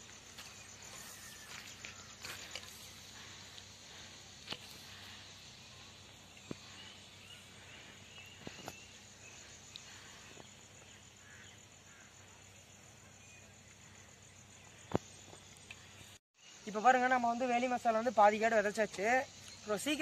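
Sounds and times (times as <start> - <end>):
insects: 0.0 - 20.0.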